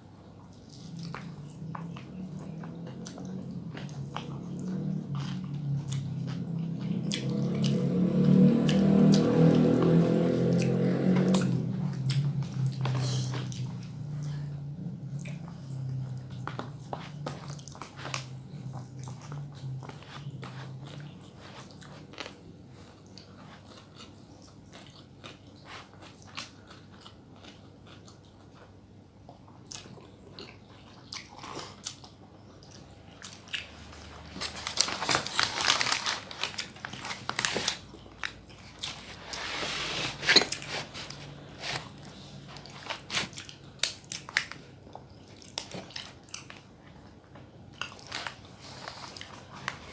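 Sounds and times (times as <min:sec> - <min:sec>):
wet chewing: 0:00.4 - 0:49.9.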